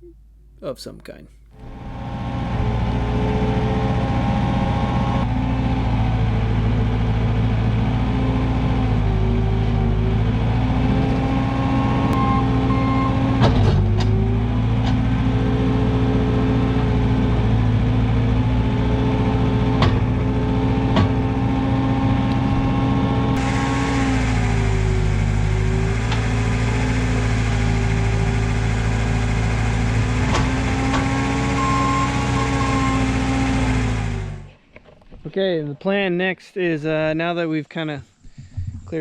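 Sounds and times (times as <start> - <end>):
skid steer engine running: 1.6 - 34.5.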